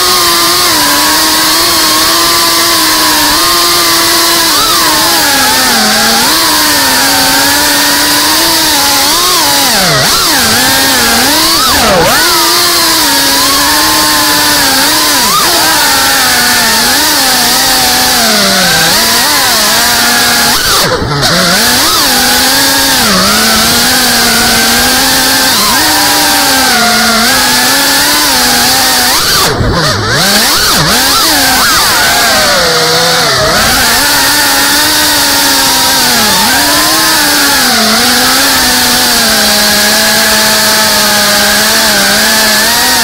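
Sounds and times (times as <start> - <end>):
drone motors buzzing whine: 0.0 - 43.0.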